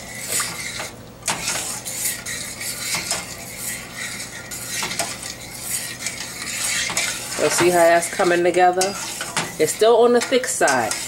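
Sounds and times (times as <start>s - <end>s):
spoon scraping metal pot: 0.0s - 11.0s.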